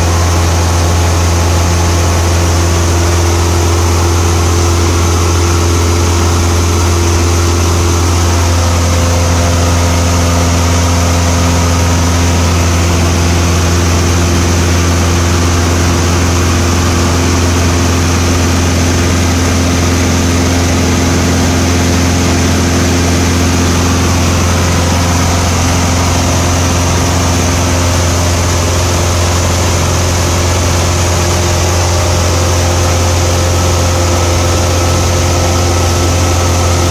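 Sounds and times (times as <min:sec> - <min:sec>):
light aircraft engine drone: 0:00.0 - 0:36.9.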